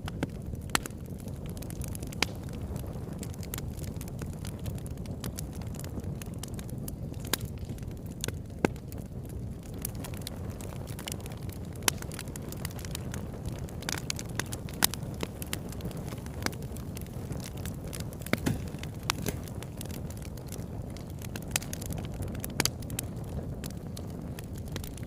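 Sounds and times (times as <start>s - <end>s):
burning logs popping: 0.0s - 25.0s
fire crackling: 0.0s - 25.0s
rush of flame: 0.1s - 25.0s.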